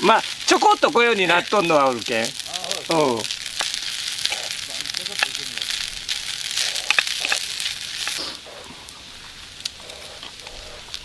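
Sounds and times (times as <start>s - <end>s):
noodles sizzling in a pan: 0.0s - 11.0s.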